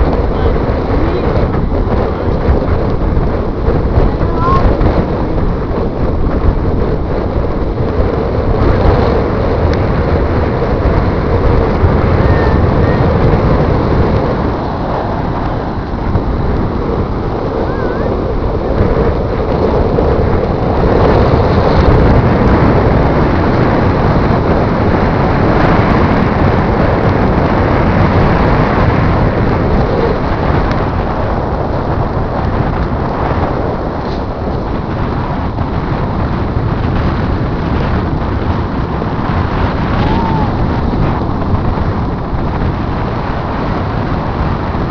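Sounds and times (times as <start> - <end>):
ocean surf: 0.0 - 44.9
wind buffeting microphone: 0.0 - 44.9.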